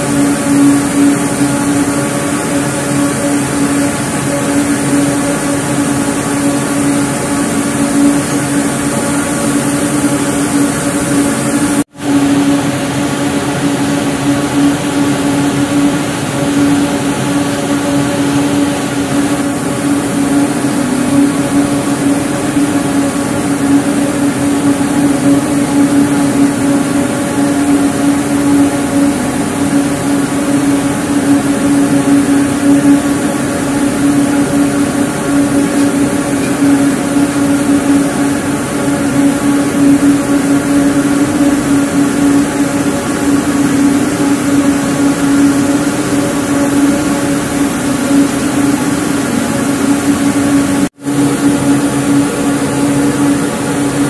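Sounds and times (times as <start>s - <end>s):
spinning machine droning: 0.0s - 54.0s.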